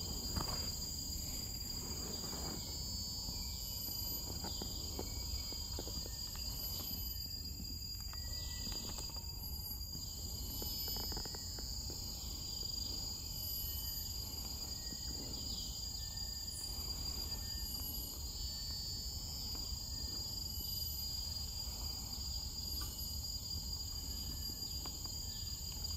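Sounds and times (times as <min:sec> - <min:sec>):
forest insects droning: 0:00.0 - 0:25.9.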